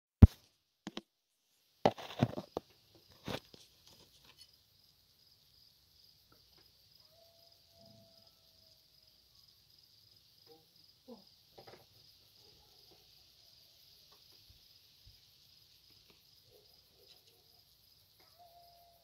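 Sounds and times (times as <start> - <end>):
crickets chirring: 1.9 - 19.0.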